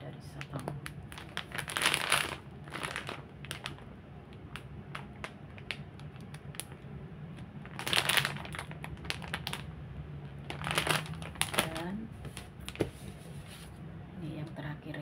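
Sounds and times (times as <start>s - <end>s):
plastic snack package crinkling: 0.4s - 12.8s.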